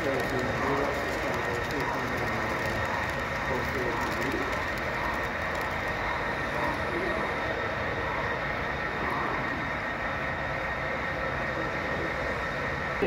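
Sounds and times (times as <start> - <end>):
model train rolling on track: 0.0 - 13.0.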